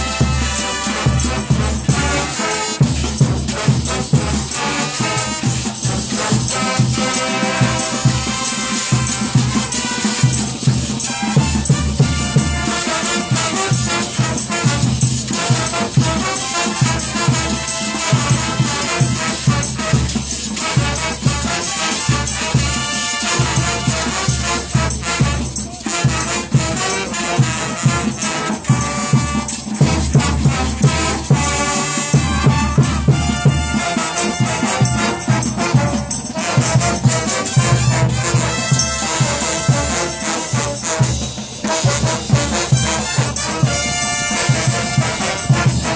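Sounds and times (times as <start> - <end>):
brass band playing cumbia: 0.0 - 45.9
rattling percussion: 0.0 - 45.9.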